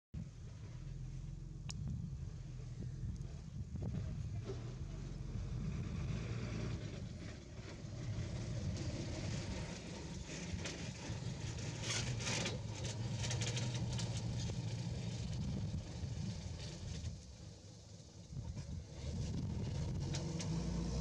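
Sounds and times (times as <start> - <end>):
low engine hum: 0.2 - 21.0.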